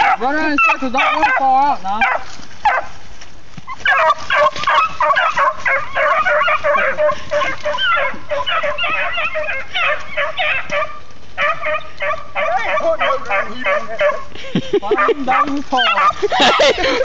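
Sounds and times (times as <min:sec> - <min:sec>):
dogs yelping and baying: 0:00.0 - 0:03.0, 0:03.7 - 0:17.0.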